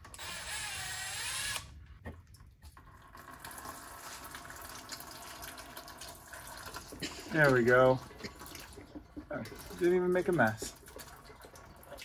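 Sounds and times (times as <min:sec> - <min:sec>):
fluid pouring into drain pan: 0:02.3 - 0:12.0.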